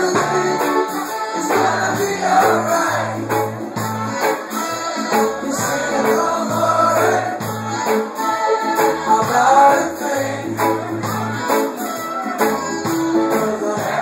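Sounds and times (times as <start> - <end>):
bass line: 0.0 - 14.0
live reggae band: 0.0 - 14.0.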